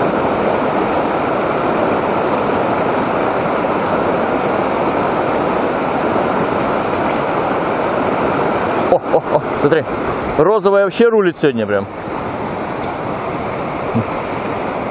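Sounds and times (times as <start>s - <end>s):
river rushing over rocks: 0.0s - 14.9s.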